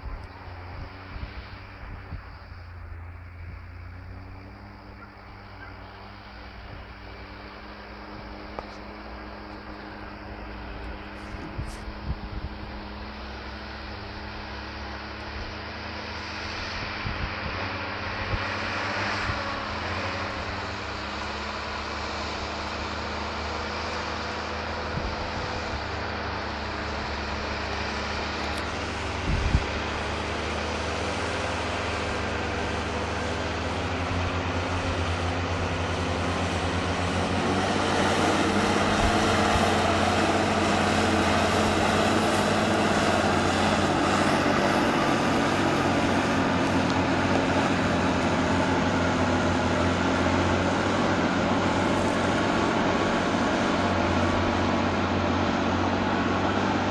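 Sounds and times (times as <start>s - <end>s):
tractor diesel engines running: 0.0s - 56.9s.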